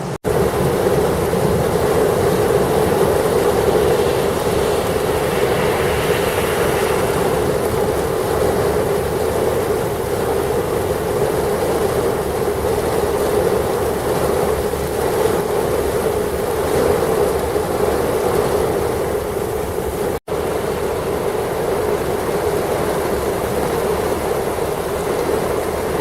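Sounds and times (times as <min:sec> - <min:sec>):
gusty wind: 0:00.0 - 0:26.0
heavy rain: 0:00.0 - 0:26.0.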